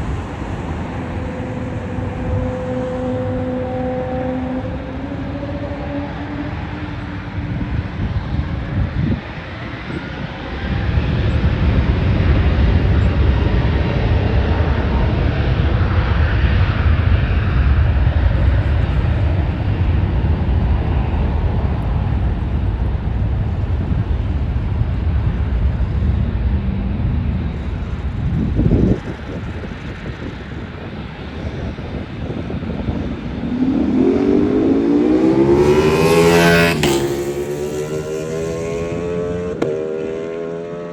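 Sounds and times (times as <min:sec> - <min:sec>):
jet airliner engines roaring: 0:00.0 - 0:40.9.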